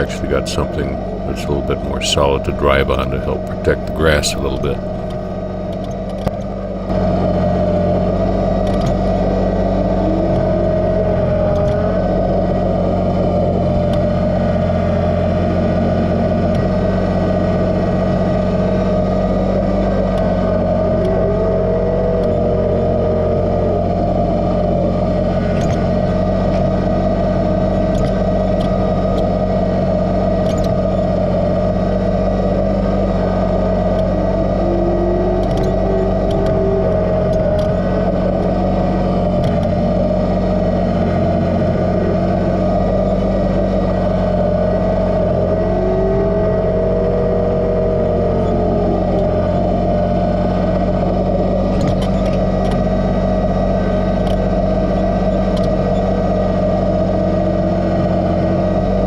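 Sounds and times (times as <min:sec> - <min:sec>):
faint whine: 0:00.0 - 0:59.0
tractor diesel engine running: 0:00.0 - 0:59.0.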